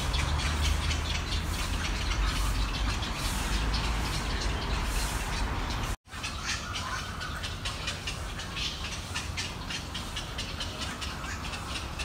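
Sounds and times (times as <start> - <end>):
high bird chirps: 0.0 - 12.0
street traffic rumble: 0.0 - 12.0.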